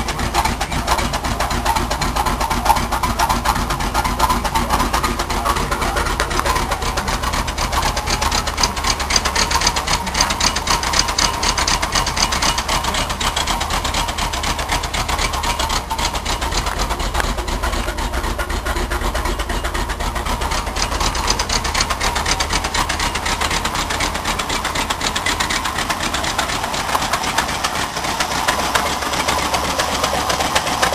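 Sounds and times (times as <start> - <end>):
rapid pulsing from exhaust leak: 0.0 - 30.9
truck engine idling: 0.0 - 30.9.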